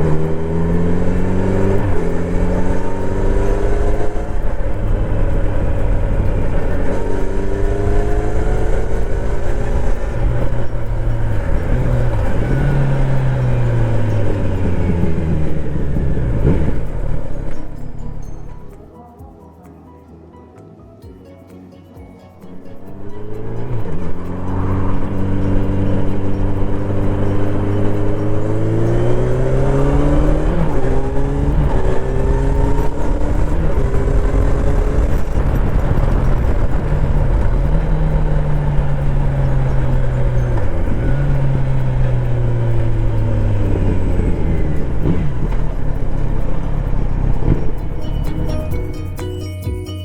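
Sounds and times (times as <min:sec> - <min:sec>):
motorcycle engine revving: 0:00.0 - 0:18.8, 0:22.4 - 0:49.2.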